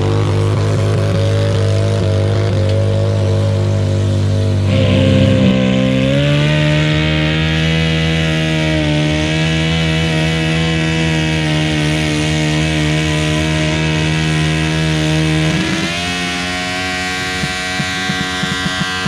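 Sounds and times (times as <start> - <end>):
tractor engine at full load: 0.0 - 19.0.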